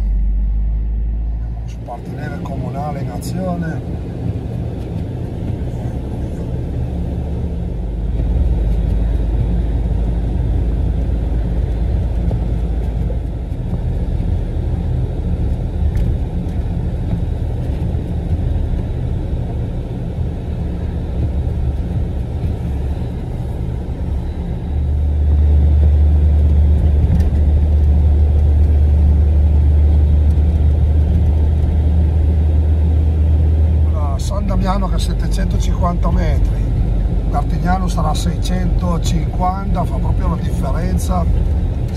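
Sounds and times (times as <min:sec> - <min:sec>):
truck engine and road noise: 0:00.0 - 0:41.9.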